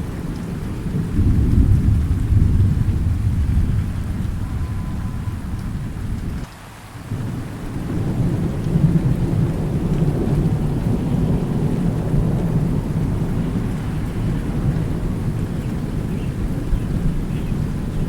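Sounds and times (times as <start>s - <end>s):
rain falling: 0.0s - 18.0s
rolling thunder: 0.0s - 18.0s.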